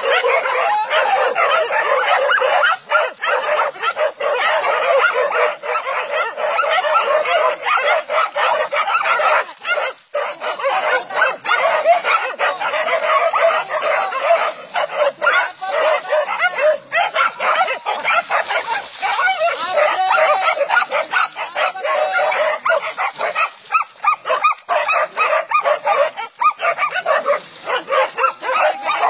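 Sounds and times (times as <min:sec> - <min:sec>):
dogs barking and yelping: 0:00.0 - 0:29.0.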